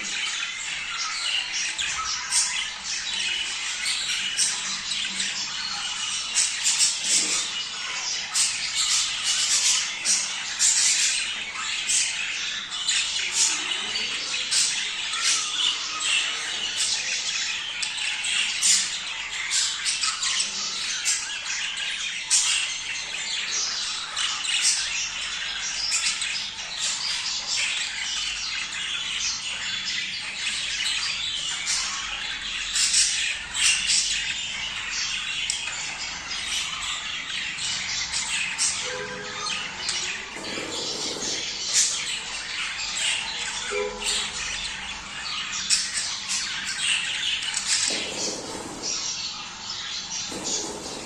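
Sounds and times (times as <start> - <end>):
budgerigars chattering and squawking: 0.0 - 51.0.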